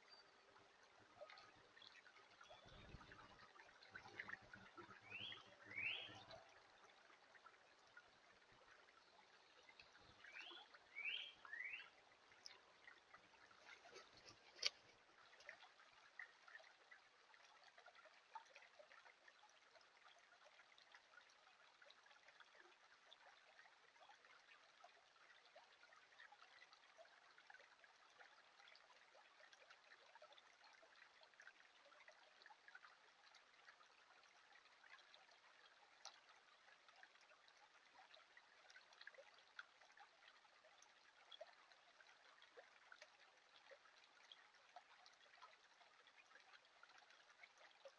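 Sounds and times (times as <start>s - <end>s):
creek trickling over gravel: 0.0s - 47.9s.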